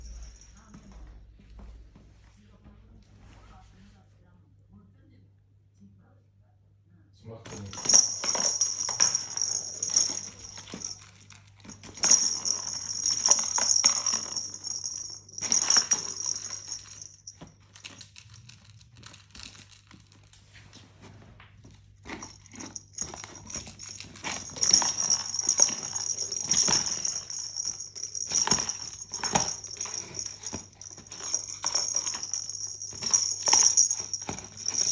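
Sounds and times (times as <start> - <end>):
knocks and scuffling: 0.0 - 3.8, 7.5 - 18.6, 19.3 - 34.9.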